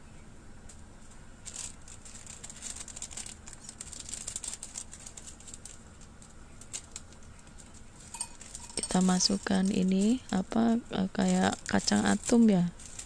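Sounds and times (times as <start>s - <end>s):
plastic packet crinkling: 1.4s - 13.0s.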